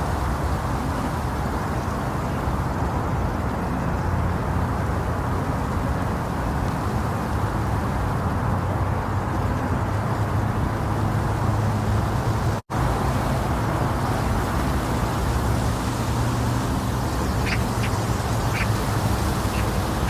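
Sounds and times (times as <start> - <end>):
deep hiss-rumble sleep noise: 0.0 - 20.0.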